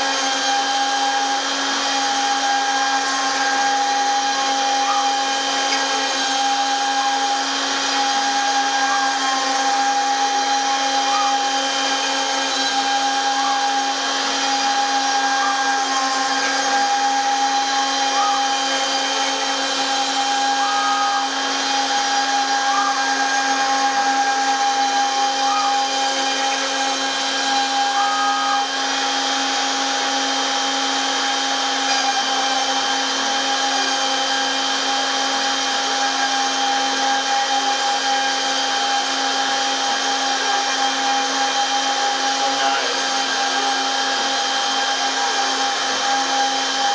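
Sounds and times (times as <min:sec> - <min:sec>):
cutter whines: 0:00.0 - 0:46.9
router spindle running: 0:00.0 - 0:46.9.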